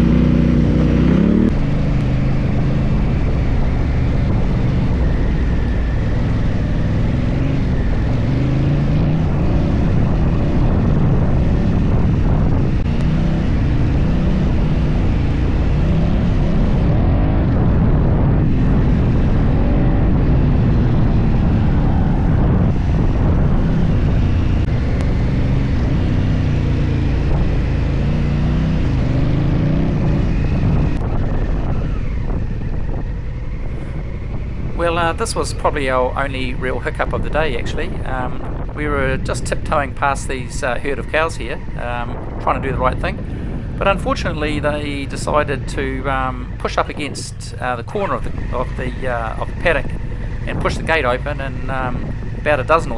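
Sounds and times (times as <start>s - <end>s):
motorcycle engine revving off-road: 0.0s - 52.9s.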